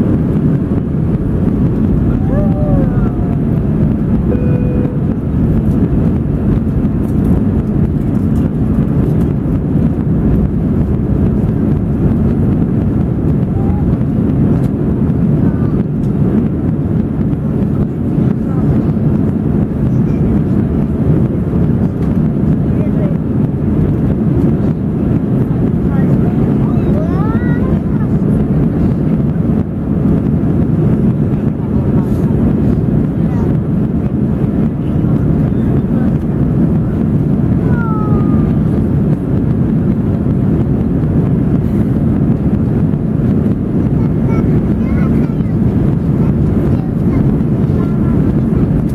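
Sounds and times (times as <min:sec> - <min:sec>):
air rushing along fuselage: 0:00.0 - 0:48.9
jet engines rumbling: 0:00.0 - 0:48.9.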